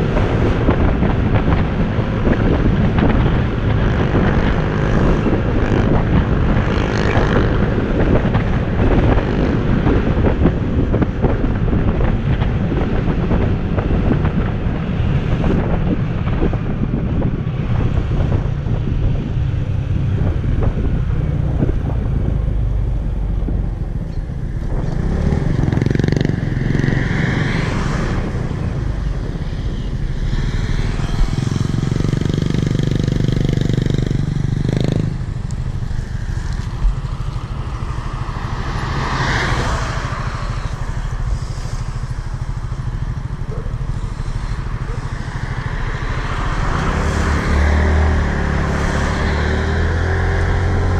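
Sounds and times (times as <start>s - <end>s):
motorbike engines droning: 0.0s - 50.9s
road noise: 0.0s - 50.9s.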